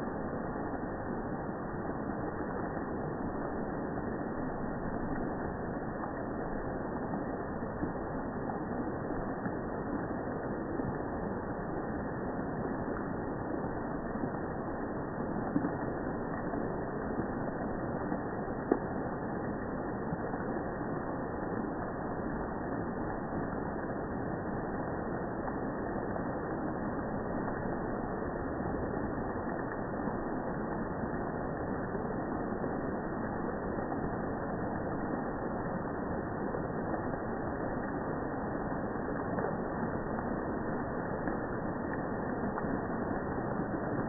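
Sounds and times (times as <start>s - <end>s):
rain on foliage: 0.0s - 44.0s
dripping water: 2.1s - 24.1s, 25.0s - 44.0s.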